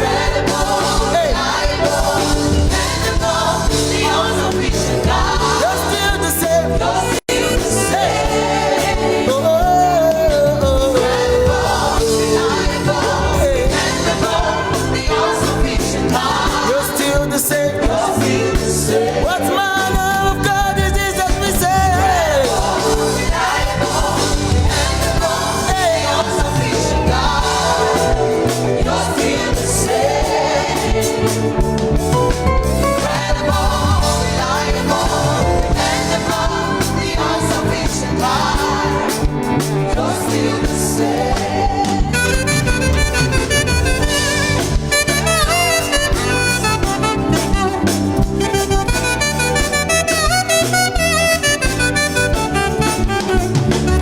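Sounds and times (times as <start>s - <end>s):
voices singing: 0.0s - 31.6s, 32.8s - 47.8s
gospel band music: 0.0s - 54.0s.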